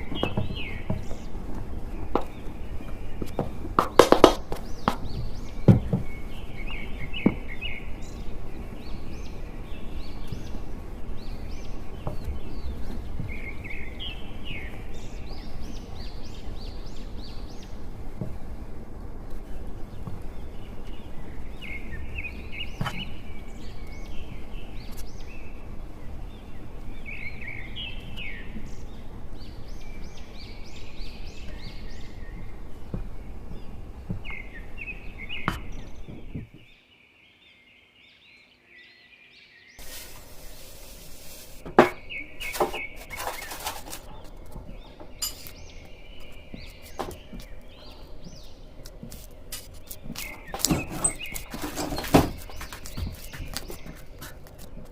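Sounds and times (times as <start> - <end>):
birds chirping trills: 0.0 - 54.9.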